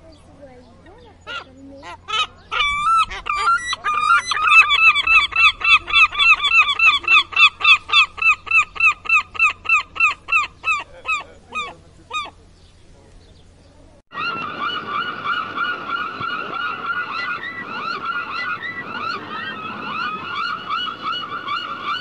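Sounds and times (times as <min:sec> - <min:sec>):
gull calling: 0:01.2 - 0:12.4, 0:14.1 - 0:22.0.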